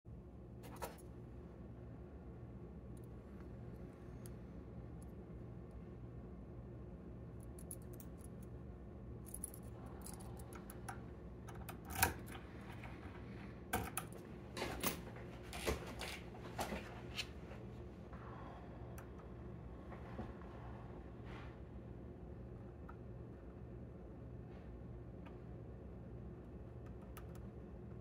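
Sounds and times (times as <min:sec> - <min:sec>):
faint steady hum: 0:00.1 - 0:28.0.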